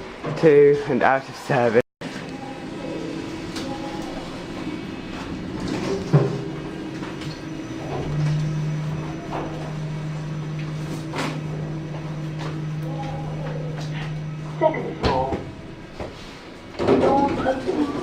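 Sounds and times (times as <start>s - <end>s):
lift machinery hum: 2.0s - 18.0s.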